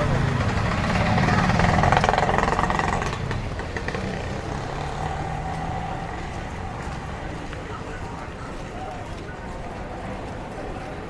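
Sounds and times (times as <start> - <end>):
vehicle engine passing by: 0.0 - 8.9
street traffic noise: 0.0 - 11.0.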